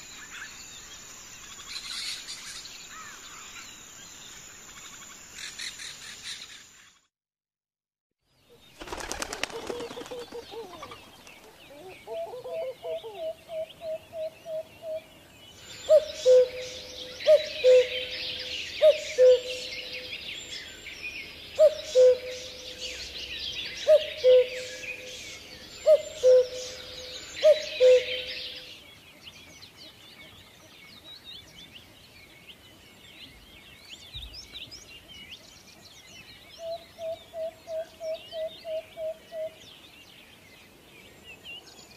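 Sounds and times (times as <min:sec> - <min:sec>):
small birds chirping: 0:08.2 - 0:41.9.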